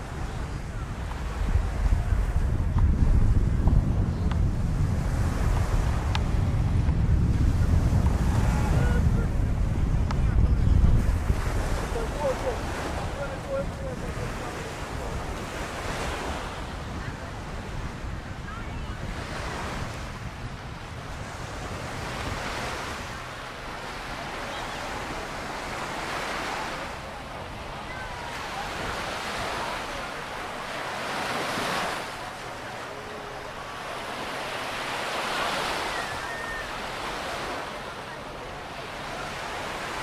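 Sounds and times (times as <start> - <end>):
ocean surf breaking on beach: 0.0 - 40.0
wind rumble on microphone: 0.0 - 40.0.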